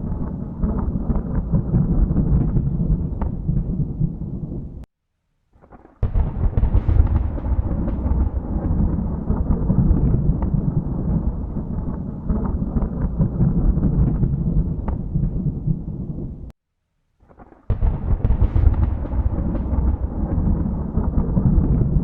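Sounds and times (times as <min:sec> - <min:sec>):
thunder rumbling: 0:00.0 - 0:04.9, 0:06.0 - 0:16.5, 0:17.7 - 0:22.0.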